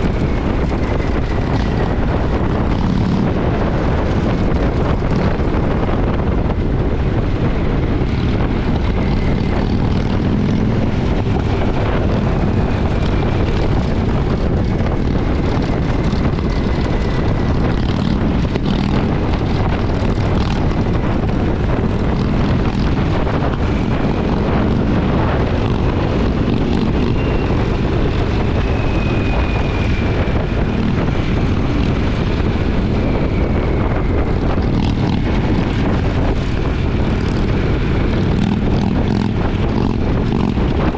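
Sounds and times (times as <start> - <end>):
motorcycle engine cruising: 0.0 - 40.9
wind rushing: 0.0 - 40.9.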